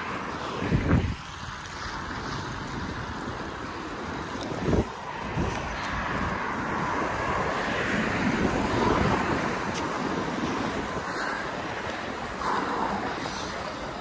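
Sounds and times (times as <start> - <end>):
skate wheels rolling on wet asphalt: 0.0 - 14.0
wind on microphone: 0.0 - 14.0.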